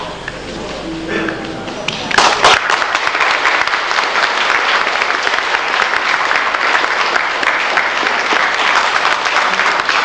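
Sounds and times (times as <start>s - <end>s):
audience applauding: 1.9s - 10.0s.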